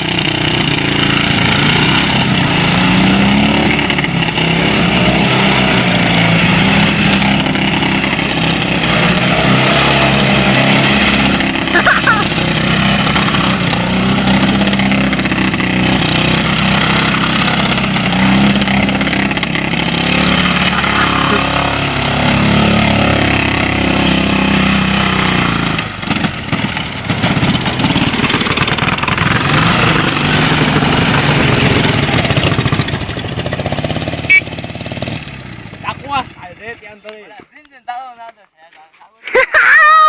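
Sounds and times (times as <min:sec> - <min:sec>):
motorcycle engine revving: 0:00.0 - 0:37.1.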